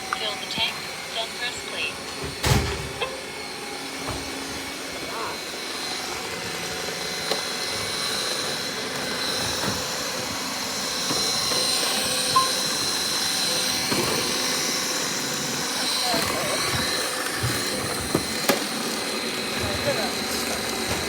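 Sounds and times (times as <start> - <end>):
robot vacuum cleaner whirring: 0.0 - 21.0.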